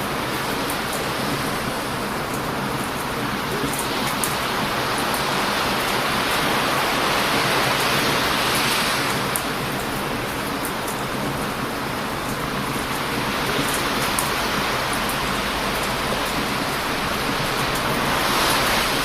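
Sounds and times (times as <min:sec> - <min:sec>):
ocean surf rushing onto beach: 0:00.0 - 0:19.0.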